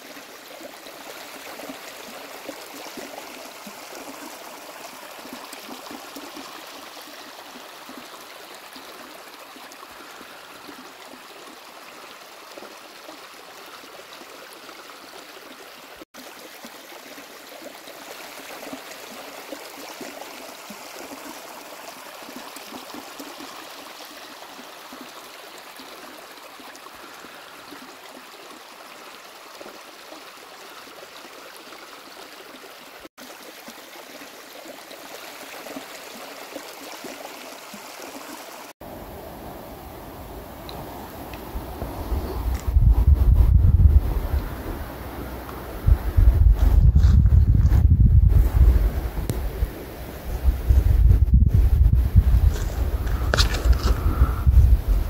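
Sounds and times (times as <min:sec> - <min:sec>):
stream rushing over rocks: 0:00.0 - 0:47.4, 0:48.2 - 0:55.0.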